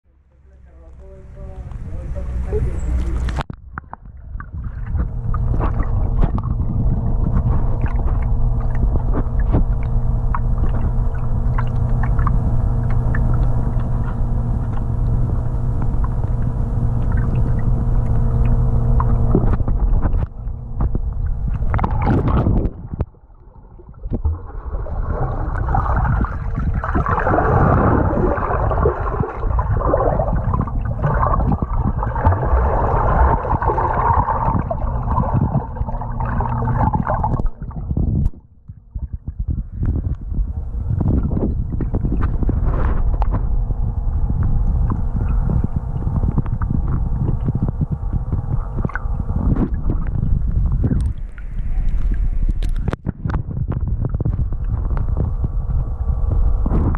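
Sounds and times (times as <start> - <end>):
low machine hum with clicks: 0.1 - 56.9
water churning and gurgling: 0.3 - 56.9.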